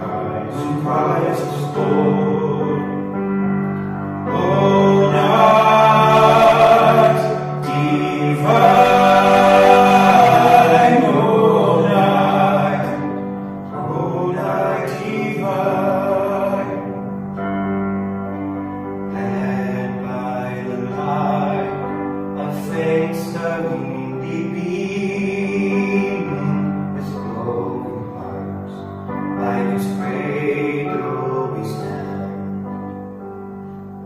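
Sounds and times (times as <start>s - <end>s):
boys singing a hymn: 0.0s - 3.2s, 4.2s - 17.4s, 19.1s - 32.6s.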